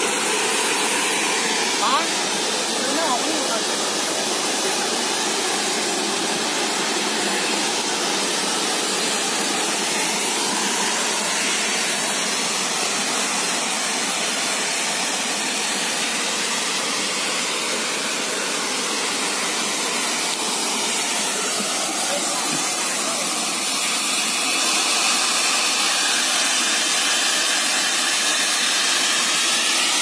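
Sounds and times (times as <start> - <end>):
water jet hissing: 0.0 - 30.0.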